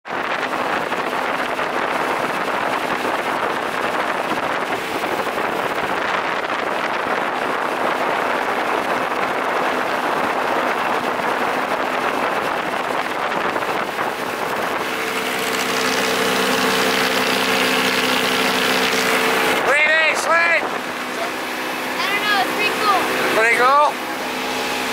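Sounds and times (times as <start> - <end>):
motorboat engine running: 0.0 - 24.9
wind and water rushing: 0.0 - 24.9.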